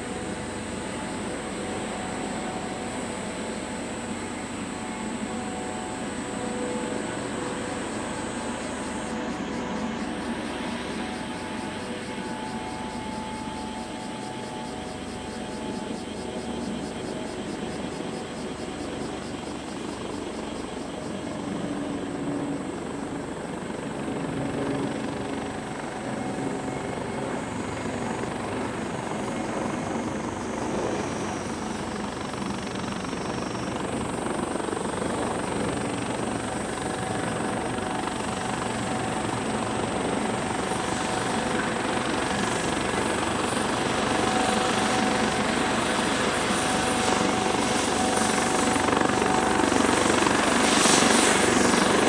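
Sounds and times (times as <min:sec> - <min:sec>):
helicopter engines running: 0:00.0 - 0:52.0.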